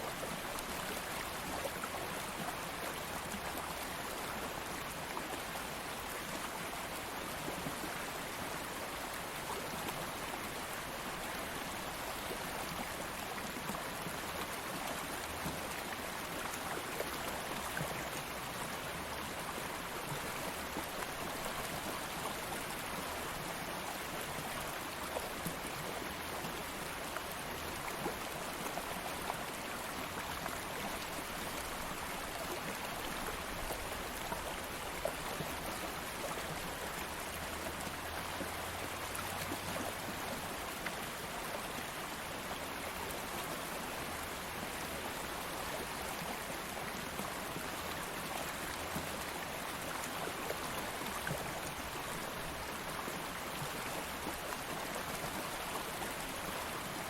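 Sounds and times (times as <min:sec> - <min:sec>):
small water splashes and trickles: 0:00.0 - 0:57.0
stream of flowing water: 0:00.0 - 0:57.0.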